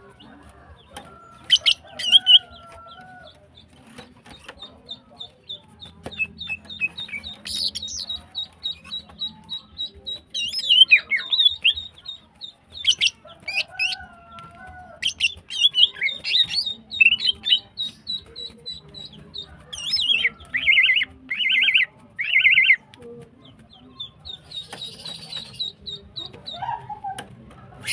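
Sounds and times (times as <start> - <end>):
bird chattering: 0.0 - 27.9.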